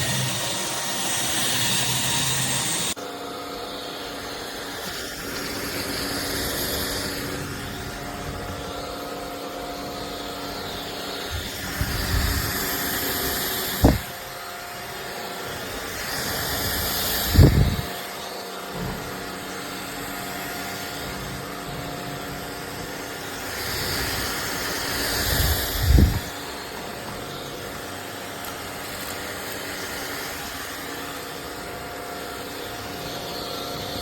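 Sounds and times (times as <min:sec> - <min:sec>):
stick vacuum motor hum: 0:00.0 - 0:34.0.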